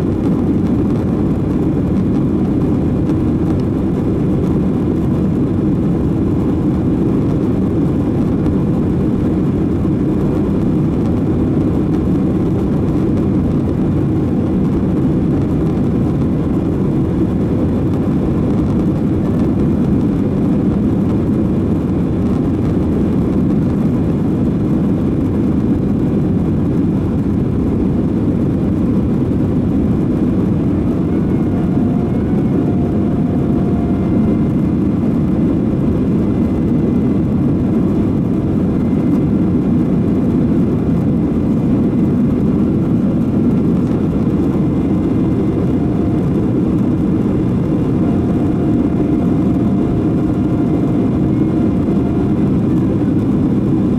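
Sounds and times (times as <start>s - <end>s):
faint high whine: 0.0s - 53.9s
jet engines and airflow rushing: 0.0s - 53.9s.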